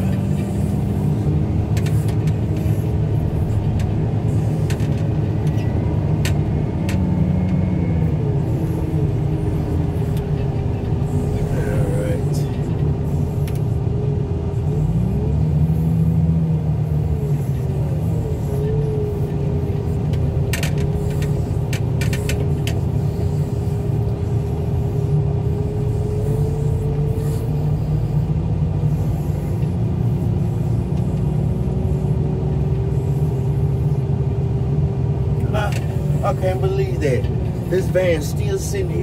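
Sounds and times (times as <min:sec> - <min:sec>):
diesel engine running: 0:00.0 - 0:39.0
engine whine rising in pitch: 0:00.0 - 0:39.0.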